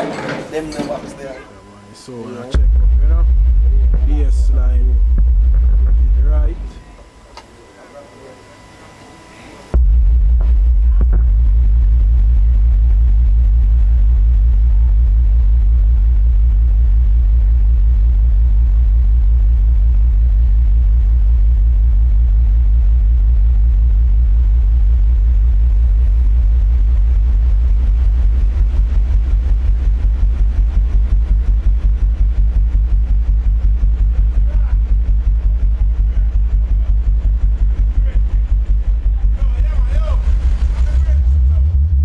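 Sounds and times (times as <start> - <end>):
deep bass tone from speakers: 1.8 - 8.7, 9.4 - 42.0.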